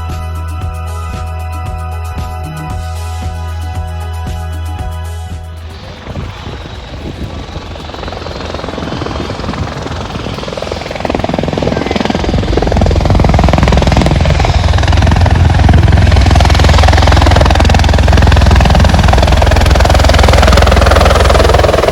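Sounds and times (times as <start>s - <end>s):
helicopter rotor and engine: 0.0s - 21.9s.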